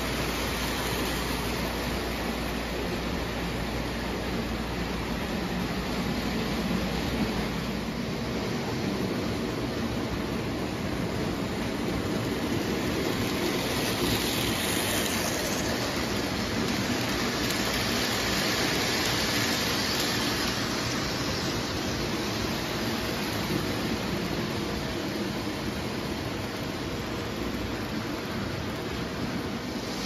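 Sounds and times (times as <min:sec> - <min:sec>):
model trains rumbling and whirring: 0:00.0 - 0:30.0.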